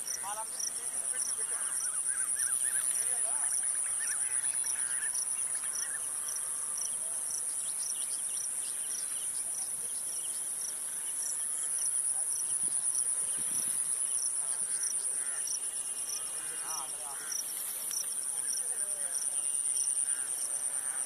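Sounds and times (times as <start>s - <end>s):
insects high-pitched drone: 0.0s - 21.0s.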